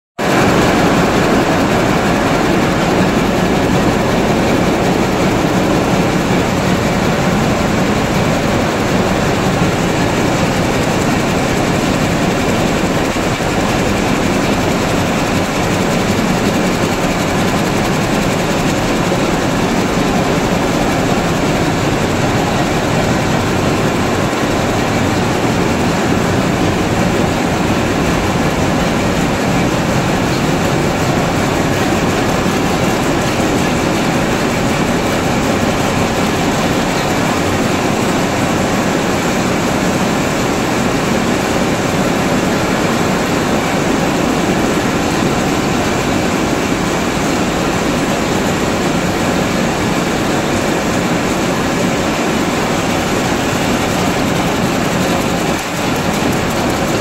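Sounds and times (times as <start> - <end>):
weaving looms running: 0.2 - 57.0.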